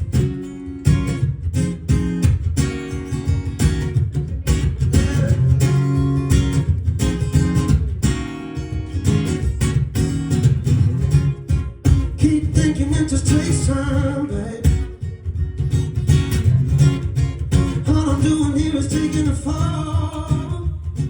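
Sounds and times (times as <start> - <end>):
bass: 0.0 - 21.0
strummed acoustic guitar: 0.0 - 21.0.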